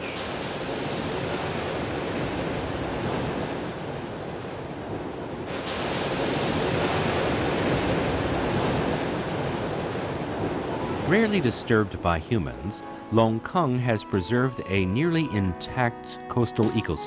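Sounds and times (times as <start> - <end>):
surf breaking on rocky shore: 0.0 - 14.7
wind: 0.0 - 15.3.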